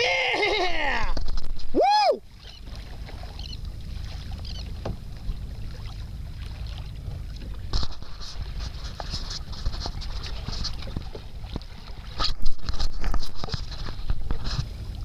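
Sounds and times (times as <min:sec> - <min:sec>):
low rumble of wind: 0:00.0 - 0:15.0
water sloshing against kayak hull: 0:00.6 - 0:15.0.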